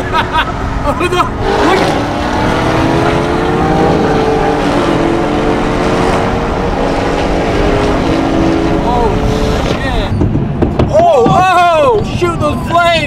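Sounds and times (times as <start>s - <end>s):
car engine drone: 0.0s - 12.9s
tyre and road noise: 0.0s - 13.0s.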